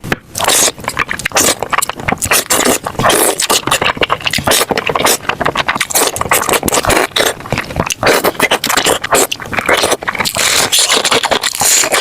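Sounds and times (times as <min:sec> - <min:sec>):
chewing and crunching: 0:00.3 - 0:12.0.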